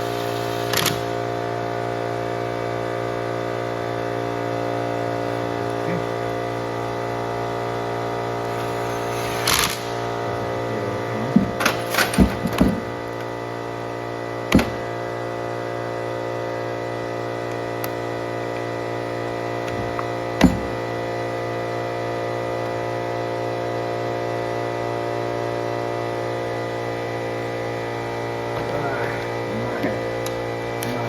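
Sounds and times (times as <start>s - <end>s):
steady multi-tone hum: 0.0s - 31.0s.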